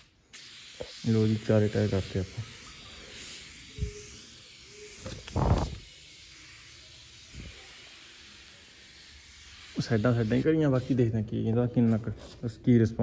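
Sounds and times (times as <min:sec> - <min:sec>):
aerosol spray hissing: 0:00.0 - 0:12.1.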